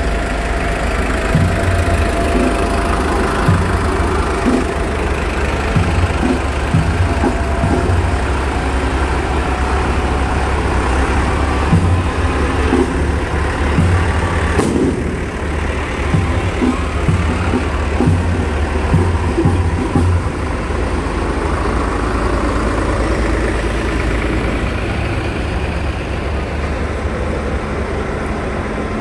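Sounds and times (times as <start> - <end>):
tractor diesel engines passing: 0.0 - 29.0.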